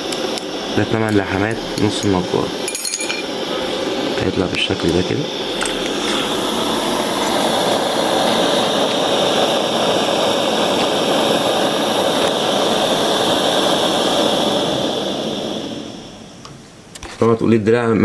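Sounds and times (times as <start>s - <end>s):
machine hiss and whir: 0.0s - 17.4s.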